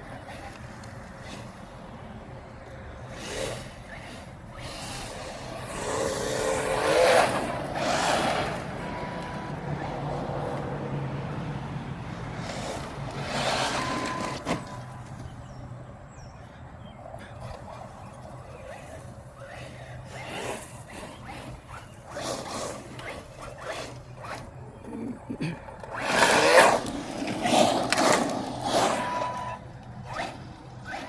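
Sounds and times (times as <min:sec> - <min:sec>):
rc truck motor and tyres: 0:00.0 - 0:31.0.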